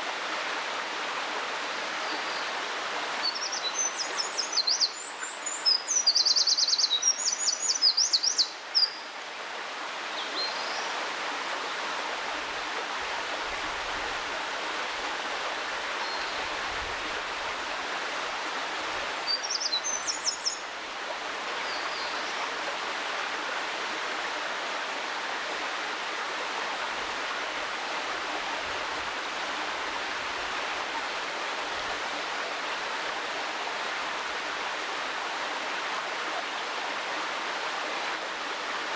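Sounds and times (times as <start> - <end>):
mountain stream rushing: 0.0 - 5.8, 8.4 - 38.9.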